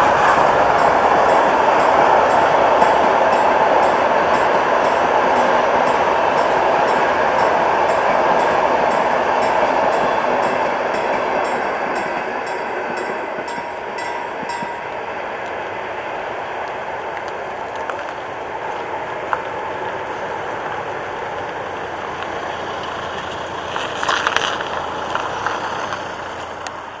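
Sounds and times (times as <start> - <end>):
train clatter: 0.0 - 27.0
train rushing rumble: 0.0 - 27.0.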